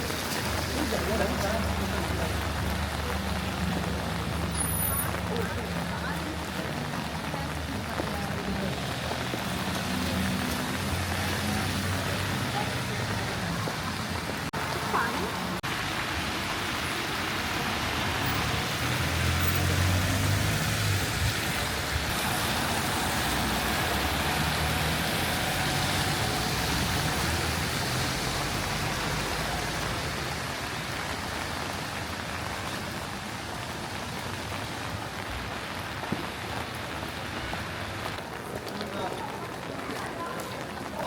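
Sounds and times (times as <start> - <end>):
rain hiss on street: 0.0 - 41.0
traffic on wet road: 0.0 - 41.0.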